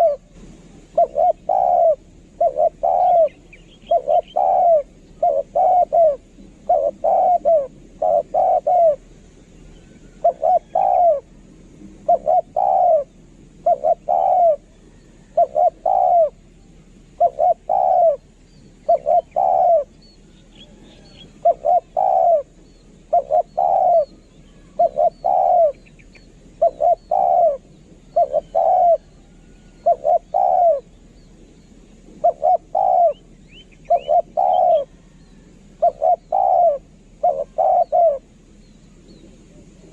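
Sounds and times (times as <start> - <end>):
dove cooing: 0.0 - 31.4, 32.0 - 38.4
small birds chirping: 0.0 - 39.9.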